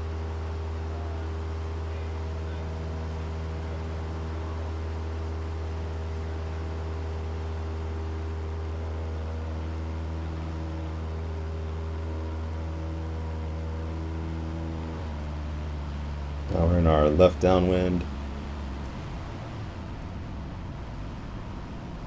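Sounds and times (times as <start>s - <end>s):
airplane engine and propeller drone: 0.0s - 22.0s.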